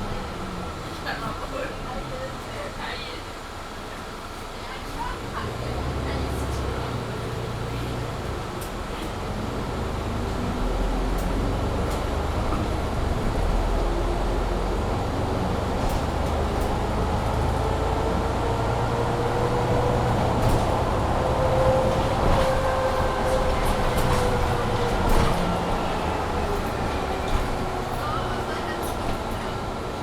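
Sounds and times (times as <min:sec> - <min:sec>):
bus engine rumble and whine: 0:00.0 - 0:30.0.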